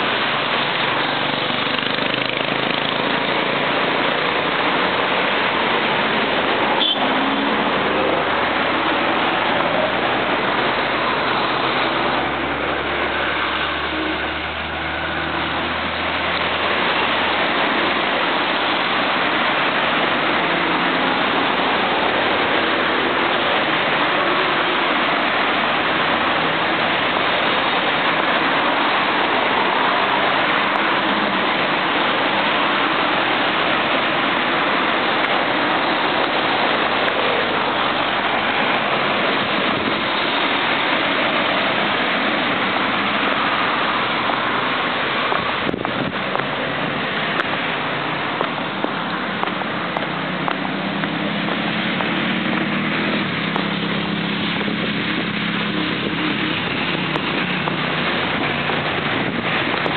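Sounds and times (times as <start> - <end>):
busy road traffic: 0.0 - 59.9
passing vehicle engine hum: 0.0 - 59.9.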